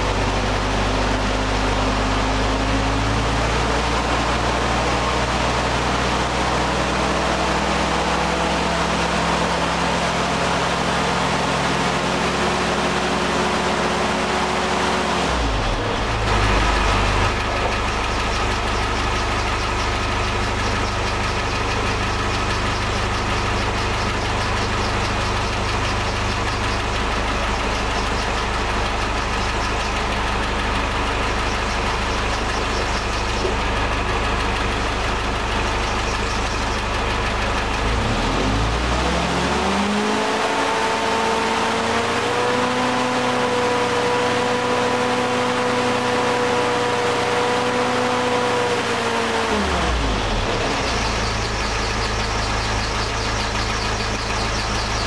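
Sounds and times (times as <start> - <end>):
jeep engine idling: 0.0 - 42.6, 49.4 - 55.0.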